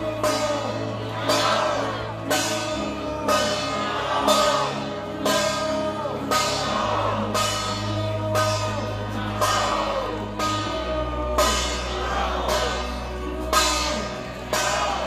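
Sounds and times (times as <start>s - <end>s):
held bass notes: 0.0s - 15.0s.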